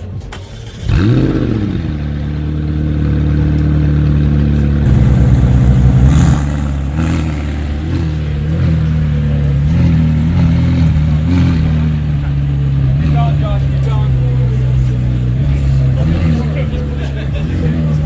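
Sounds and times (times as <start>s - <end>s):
car engine idling: 0.1s - 18.0s
engine throttle blips: 0.3s - 18.0s.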